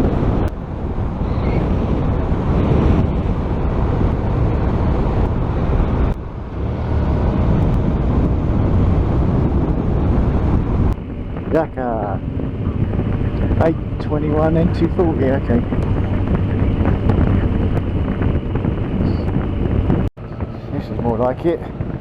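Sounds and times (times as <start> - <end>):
motorcycle engine: 0.0 - 22.0
wind rushing over microphone: 0.0 - 22.0.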